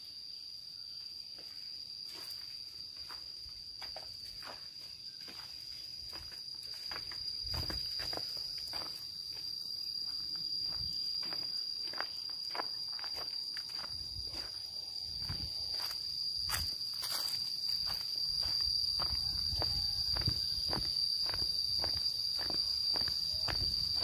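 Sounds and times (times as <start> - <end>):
high-pitched insect drone: 0.0 - 24.0
footsteps on road: 1.4 - 24.0.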